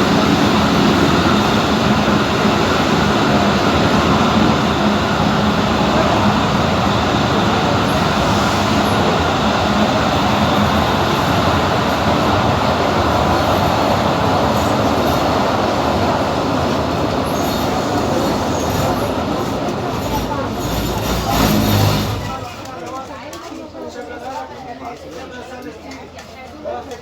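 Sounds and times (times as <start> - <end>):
train wheels rumbling on rails: 0.0 - 23.8.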